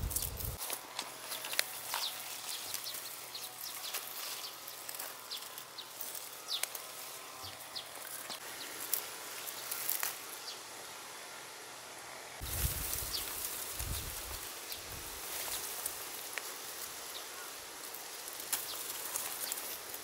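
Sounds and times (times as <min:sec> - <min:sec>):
leaves rustling and crackling: 0:00.0 - 0:20.0.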